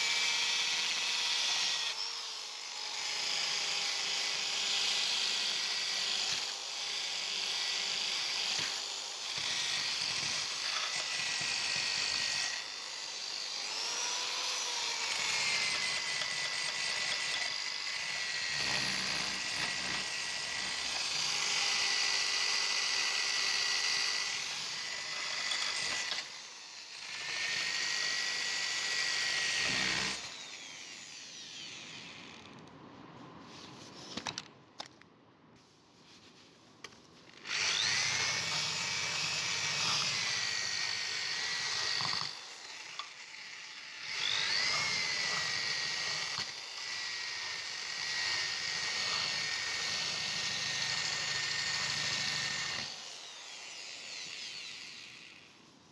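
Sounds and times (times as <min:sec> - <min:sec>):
electric drill grinding rust: 0:00.0 - 0:32.6, 0:37.3 - 0:55.7.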